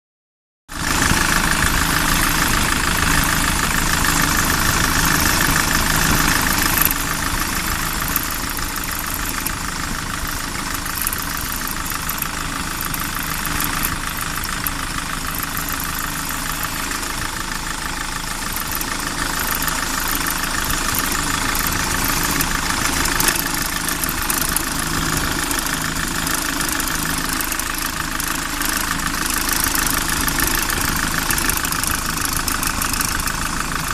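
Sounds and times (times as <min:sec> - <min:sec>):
engine idling with clatter: 0:00.7 - 0:33.9.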